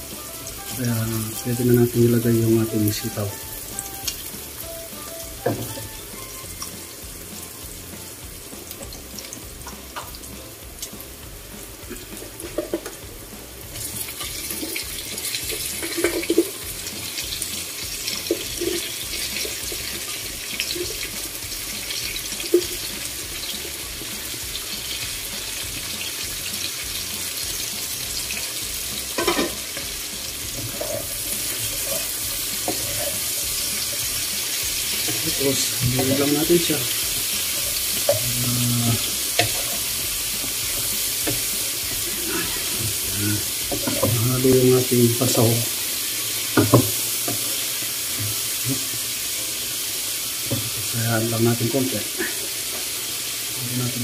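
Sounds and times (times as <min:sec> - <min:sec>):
loud hiss of frying: 0:00.0 - 0:54.0
meat frying in a wok: 0:00.0 - 0:54.0.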